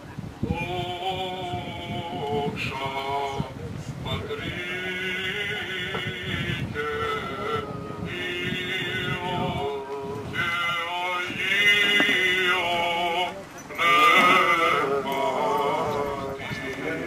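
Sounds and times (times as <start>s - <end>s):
voice chanting over loudspeaker: 0.4s - 17.0s.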